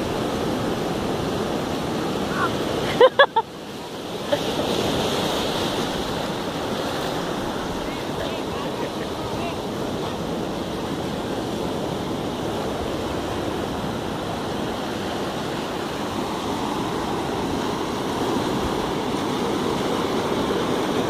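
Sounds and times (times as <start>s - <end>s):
surf breaking on rocks: 0.0s - 21.0s.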